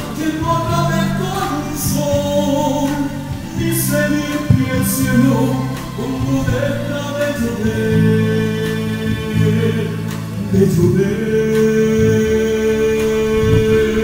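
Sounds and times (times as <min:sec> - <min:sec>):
amplified backing music: 0:00.0 - 0:14.0
man singing into microphone: 0:00.0 - 0:14.0.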